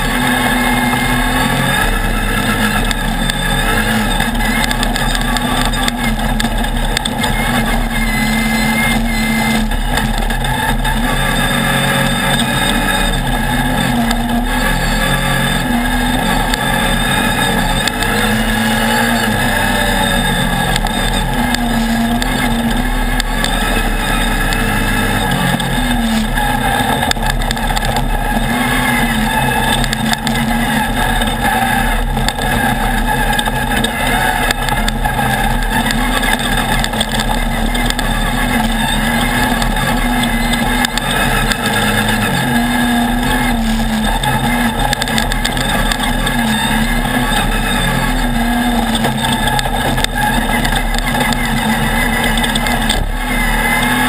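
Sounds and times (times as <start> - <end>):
buggy engine running hard: 0.0 - 54.0
chassis and tyres clattering on gravel: 0.0 - 54.0.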